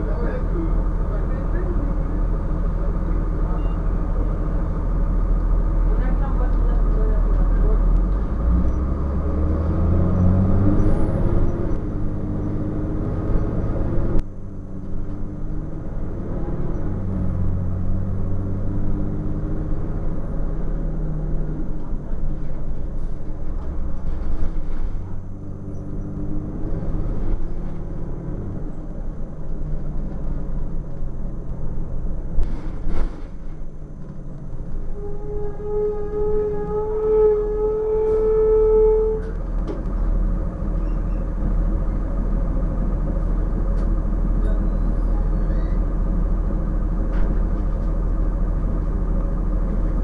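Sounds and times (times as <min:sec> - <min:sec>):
diesel bus engine: 0:00.0 - 0:50.0.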